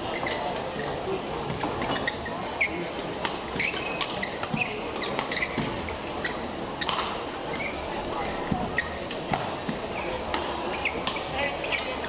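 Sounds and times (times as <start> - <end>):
crowd murmur: 0.0 - 12.0
shoes squeaking on court: 0.0 - 12.0.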